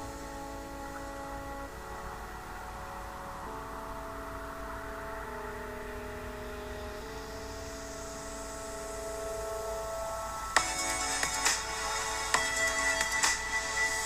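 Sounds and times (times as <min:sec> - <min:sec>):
synthesizer chords: 0:00.0 - 0:14.0.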